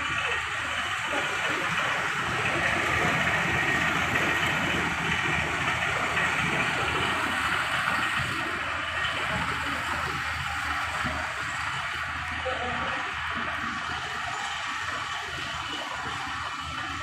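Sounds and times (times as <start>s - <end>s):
ferry engine rumbling: 0.0s - 17.0s.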